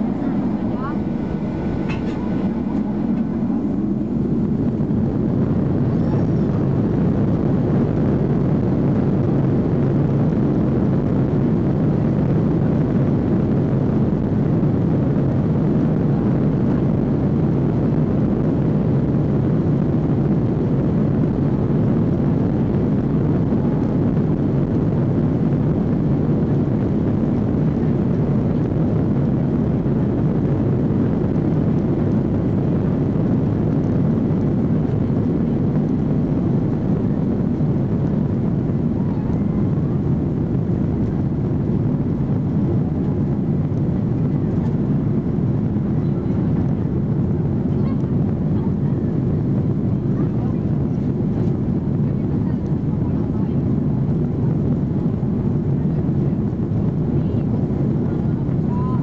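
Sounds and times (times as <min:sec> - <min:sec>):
jet engines at takeoff thrust: 0:00.0 - 0:59.0
runway rumble: 0:00.0 - 0:59.0.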